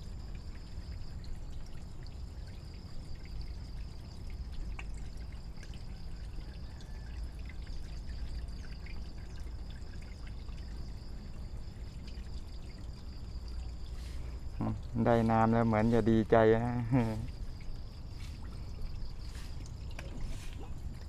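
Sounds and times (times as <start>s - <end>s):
small splashes and clicks: 0.0s - 15.9s, 16.9s - 21.0s
water pouring: 0.0s - 21.0s.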